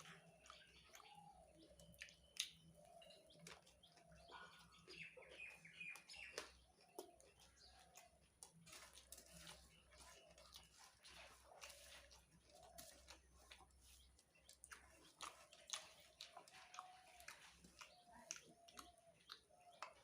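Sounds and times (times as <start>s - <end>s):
person chewing crunchy food: 0.0s - 20.0s
small birds chirping: 0.0s - 20.0s.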